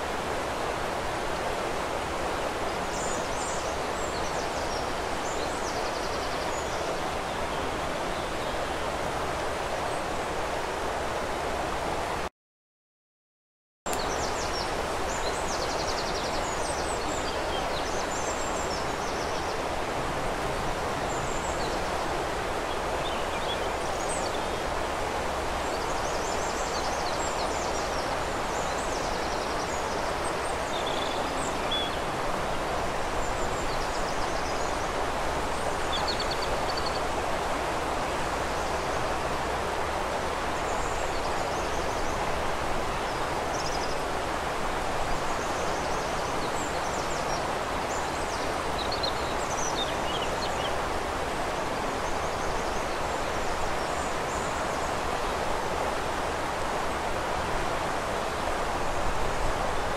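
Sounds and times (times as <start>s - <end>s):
flowing river water: 0.0s - 12.3s, 13.9s - 59.9s.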